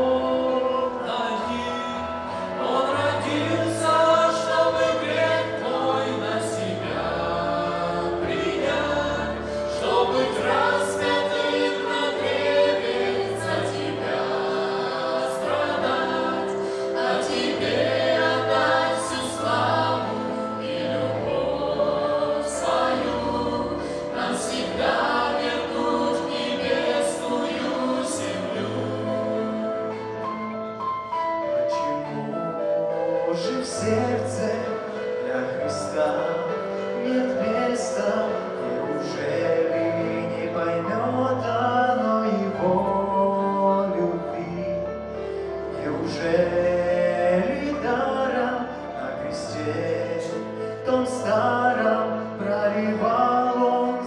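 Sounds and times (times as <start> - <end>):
instrumental accompaniment: 0.0 - 54.0
vocal ensemble singing in harmony: 0.0 - 54.0.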